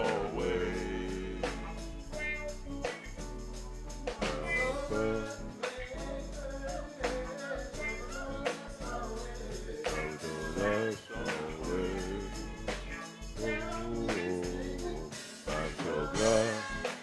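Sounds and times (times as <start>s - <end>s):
gospel voices singing: 0.0s - 3.4s, 4.0s - 17.0s
bass: 0.0s - 17.0s
drum kit beat: 0.0s - 17.0s.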